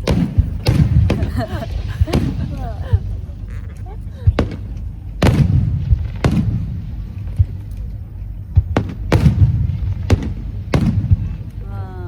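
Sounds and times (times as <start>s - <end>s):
fireworks bangs: 0.0s - 11.8s
steady low rumble: 0.0s - 12.0s.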